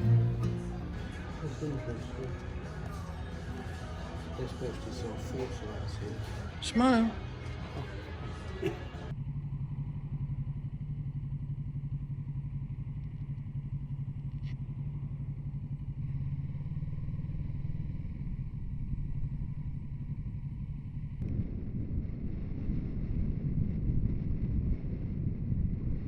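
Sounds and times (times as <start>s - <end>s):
motorcycle engine running steadily: 0.0s - 6.6s, 7.8s - 26.0s.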